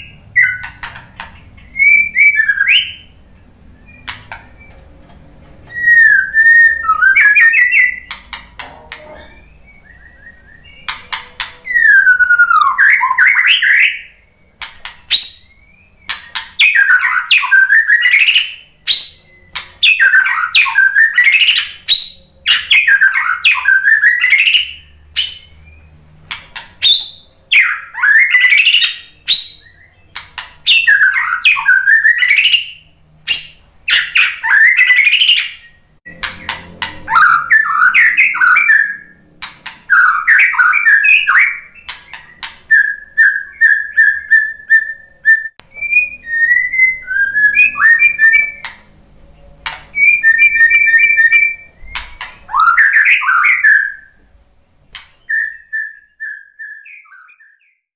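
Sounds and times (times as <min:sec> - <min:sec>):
bird singing whistled phrases: 0:00.0 - 0:00.8, 0:01.6 - 0:04.8, 0:05.7 - 0:08.2, 0:09.0 - 0:25.9, 0:26.8 - 0:35.8, 0:37.1 - 0:39.2, 0:39.9 - 0:48.8, 0:49.9 - 0:54.2, 0:55.2 - 0:57.9.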